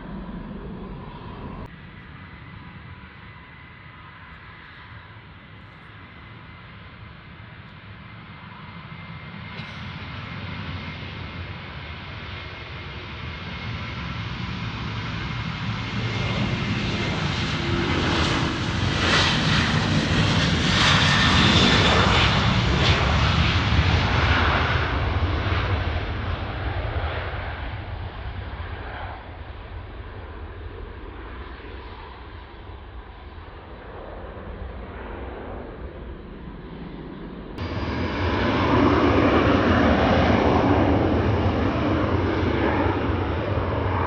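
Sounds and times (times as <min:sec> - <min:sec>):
jet engines roaring at takeoff: 0:00.0 - 0:44.0.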